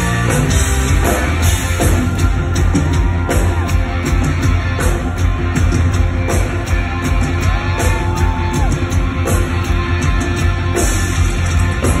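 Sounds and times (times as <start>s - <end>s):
drum kit: 0.0s - 12.0s
live rock band playing: 0.0s - 12.0s.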